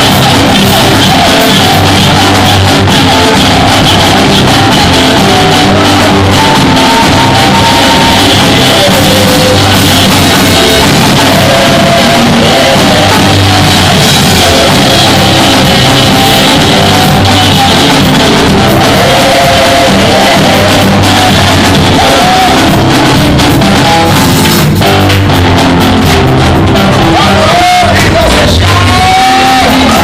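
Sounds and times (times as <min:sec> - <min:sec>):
voices singing over a band: 0:00.0 - 0:24.4, 0:26.8 - 0:30.0.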